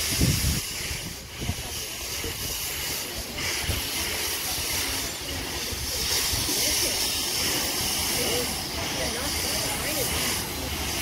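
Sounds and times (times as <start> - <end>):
steam locomotive hissing: 0.0 - 11.0
train low rumble: 0.0 - 11.0.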